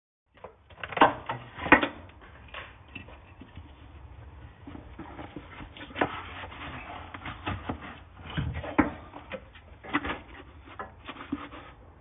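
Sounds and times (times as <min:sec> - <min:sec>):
knocks clunks and scrapes: 0:00.4 - 0:12.0.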